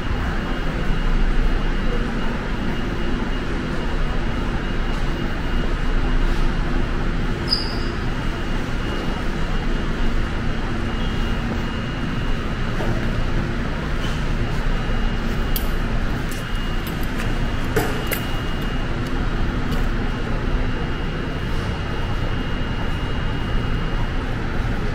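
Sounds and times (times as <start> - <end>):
station machinery hum and rush: 0.0 - 24.9.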